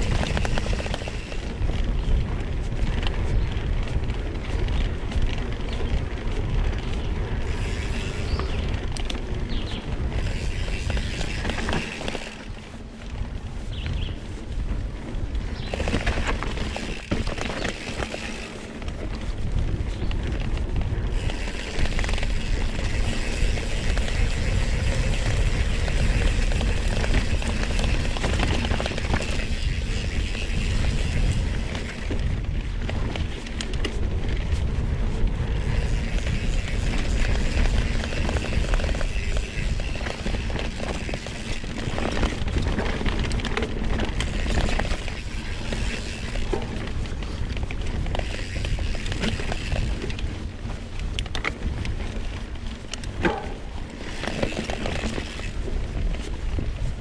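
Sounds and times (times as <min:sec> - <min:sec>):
bike clicks and rattles: 0:00.0 - 0:57.0
bike tyres on dirt trail: 0:00.0 - 0:57.0
wind rumble on microphone: 0:00.0 - 0:57.0.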